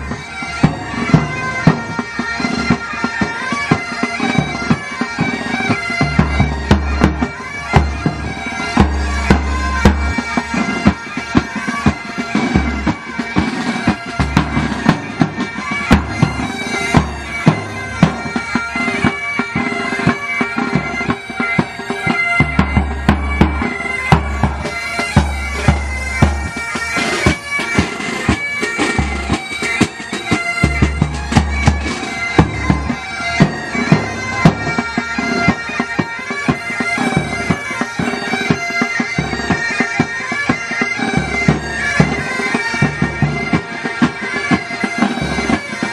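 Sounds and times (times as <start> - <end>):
bagpipes playing over drones: 0.0 - 45.9
drums beating: 0.0 - 45.9.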